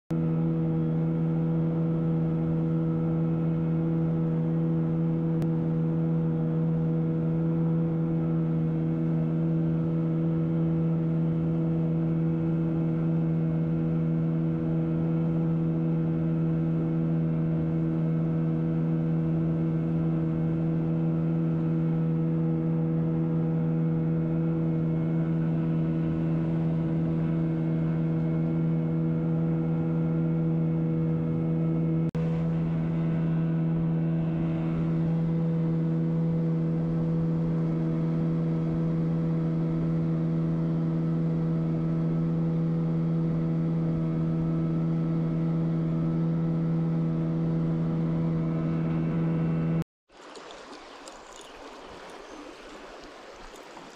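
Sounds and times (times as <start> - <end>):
outboard motor running: 0.1 - 53.9.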